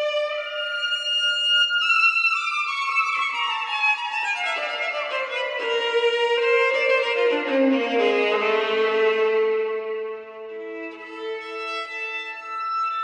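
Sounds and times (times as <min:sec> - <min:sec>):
solo violin melody: 0:00.0 - 0:13.0.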